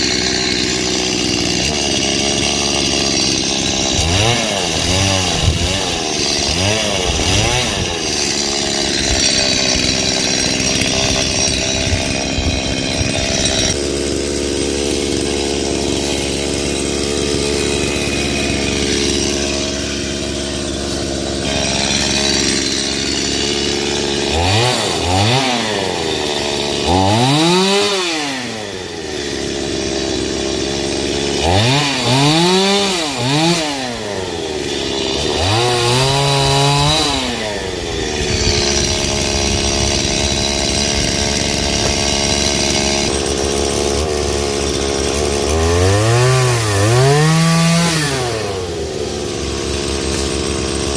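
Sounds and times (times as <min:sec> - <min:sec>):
chainsaw cutting branches: 0:00.0 - 0:50.9.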